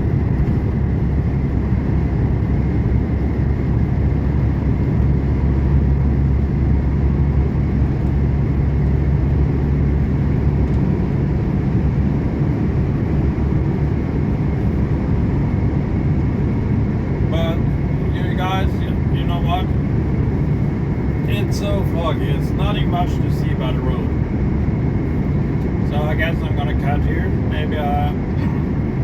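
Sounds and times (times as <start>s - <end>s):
truck diesel engine drone: 0.0s - 29.0s.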